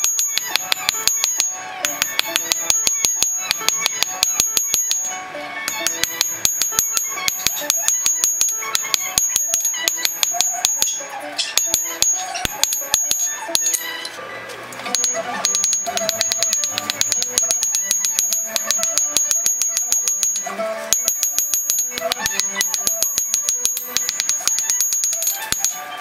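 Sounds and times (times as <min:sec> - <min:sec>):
hammer ringing on anvil: 0:00.0 - 0:13.9, 0:14.9 - 0:25.8.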